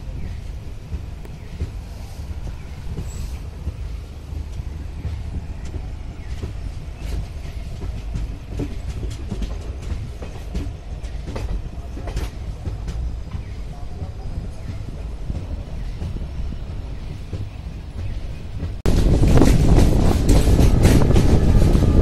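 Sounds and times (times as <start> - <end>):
train wheels rumbling on rail: 0.0 - 22.0
wheels clicking over track joints: 0.0 - 22.0.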